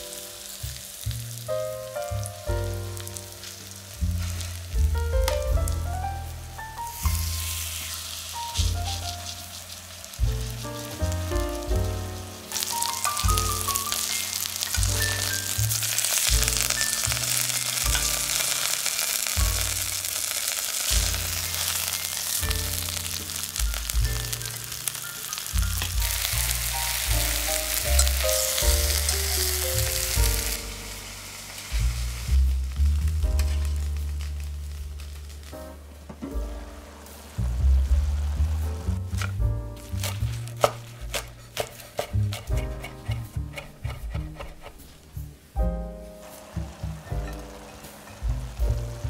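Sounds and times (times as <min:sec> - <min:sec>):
chicken sizzling in frying pan: 0:00.0 - 0:49.0
background music with low beat: 0:02.4 - 0:07.5, 0:10.2 - 0:18.5, 0:20.9 - 0:31.0, 0:31.7 - 0:49.0.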